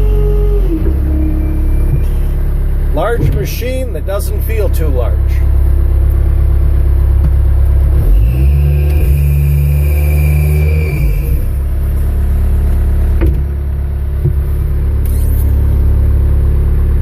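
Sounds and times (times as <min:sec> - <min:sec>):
high whine: 0:00.0 - 0:07.4, 0:08.0 - 0:16.6
diesel engine revving: 0:00.0 - 0:17.0.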